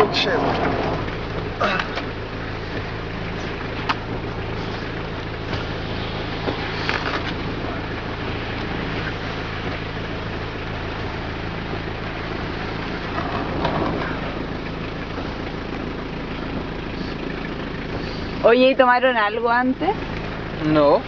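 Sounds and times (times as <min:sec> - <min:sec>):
steady rushing noise: 0:00.0 - 0:21.0
vehicle engine humming: 0:00.0 - 0:21.0.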